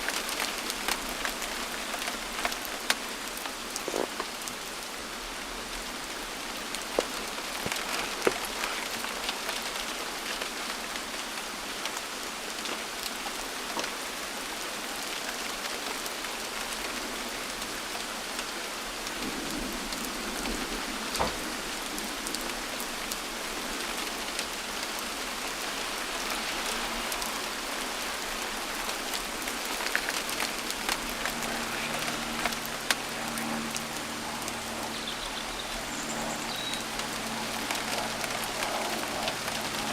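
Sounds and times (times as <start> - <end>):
raindrops striking close by: 0.0 - 39.9
steady rain hiss: 0.0 - 39.9.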